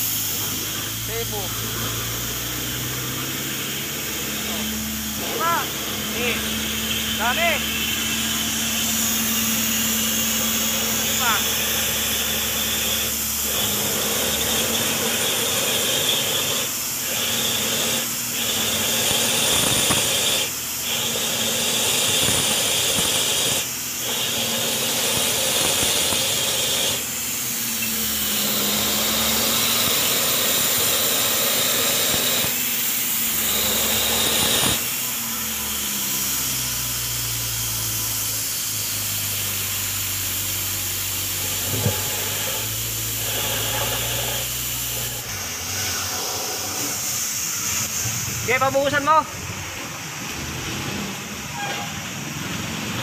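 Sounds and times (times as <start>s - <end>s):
water gushing from pipe: 0.0s - 35.0s, 36.0s - 48.2s.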